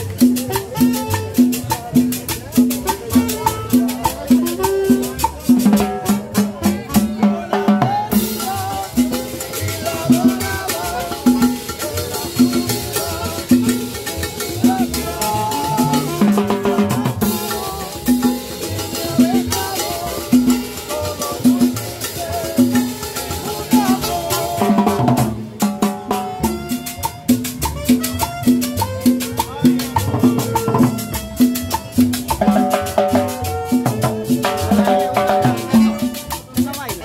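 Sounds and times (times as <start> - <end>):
hand drums: 0.0 - 37.0
live band playing: 0.0 - 37.0.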